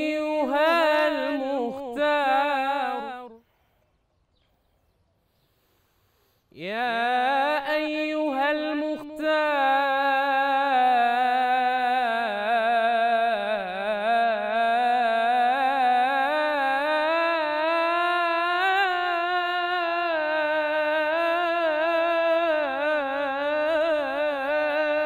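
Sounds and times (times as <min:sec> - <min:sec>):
man singing religious chant: 0:00.0 - 0:03.4, 0:06.6 - 0:25.0.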